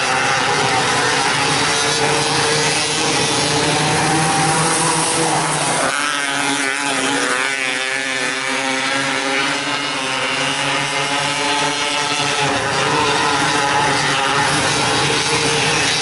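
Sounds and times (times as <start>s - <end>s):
racing car engines at high revs: 0.0s - 16.0s.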